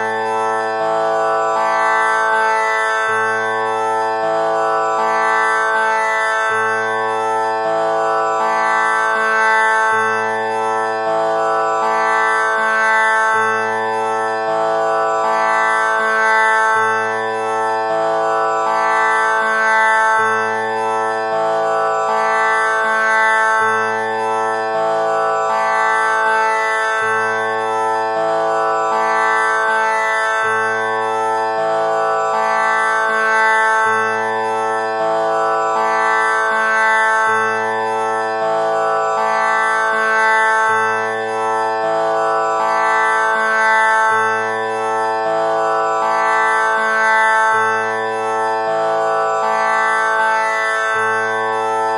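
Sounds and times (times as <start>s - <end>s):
plucked tanpura drone: 0.0s - 51.9s.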